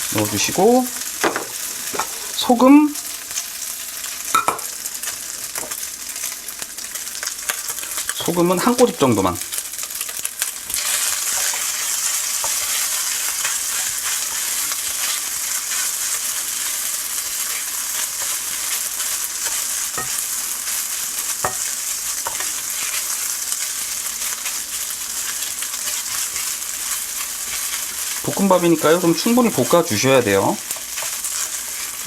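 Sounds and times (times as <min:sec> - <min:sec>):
rice sizzling in hot oil: 0:00.0 - 0:32.0.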